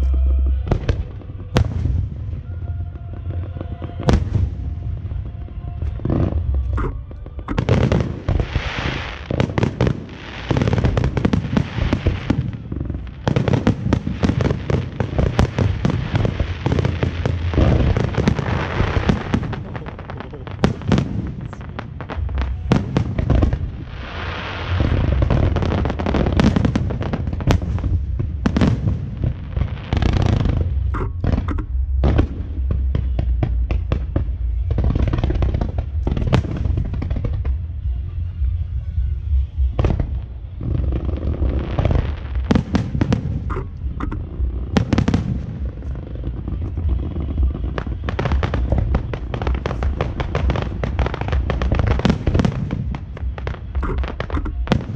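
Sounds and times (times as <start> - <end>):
fireworks hissing and crackling: 0.0 - 37.8, 39.6 - 54.9
fireworks bangs and cracks: 0.0 - 54.9.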